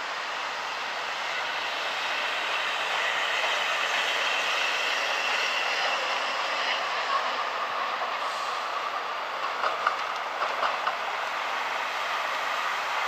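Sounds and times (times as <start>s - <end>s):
freight train passing: 0.0s - 13.0s
tram passing: 0.0s - 13.0s.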